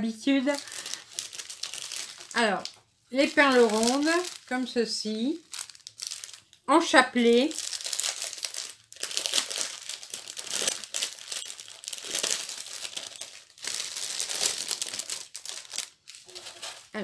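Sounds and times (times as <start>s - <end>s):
plastic bags crinkling: 0.3s - 17.0s.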